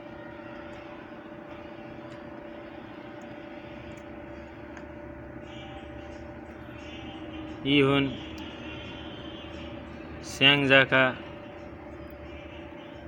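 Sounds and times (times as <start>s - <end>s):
workshop machinery humming: 0.0s - 13.0s.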